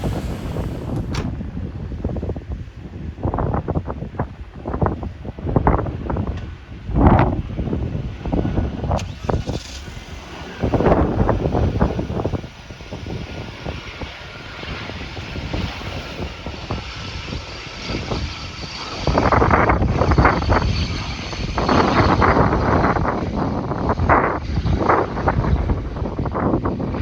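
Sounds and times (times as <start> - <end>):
distant aircraft engines: 0.0 - 27.0
wind buffeting microphone: 0.0 - 27.0.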